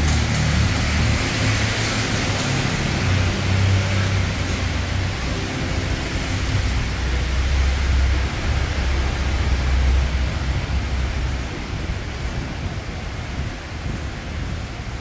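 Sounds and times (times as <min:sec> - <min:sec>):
city ambience hiss: 0:00.0 - 0:15.0.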